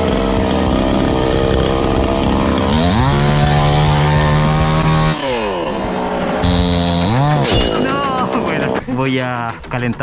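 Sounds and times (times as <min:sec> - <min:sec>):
chainsaw idling and revving: 0:00.0 - 0:08.8.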